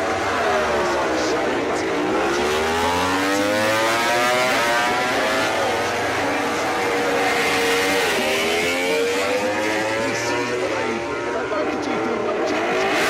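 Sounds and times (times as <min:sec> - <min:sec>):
race motorcycles at high revs: 0:00.0 - 0:13.0.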